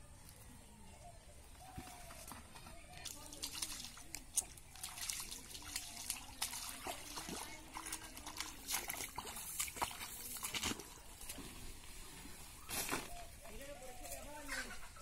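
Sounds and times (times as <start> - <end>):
feet wading through muddy water: 0.1 - 15.0
mud squelching: 0.1 - 15.0.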